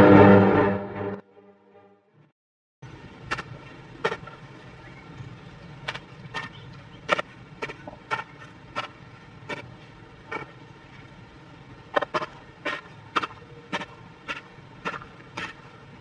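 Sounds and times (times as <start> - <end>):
low background noise: 2.8 - 16.0.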